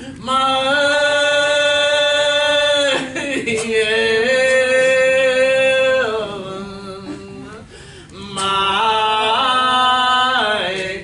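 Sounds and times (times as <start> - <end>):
unaccompanied hymn singing: 0.1 - 11.0.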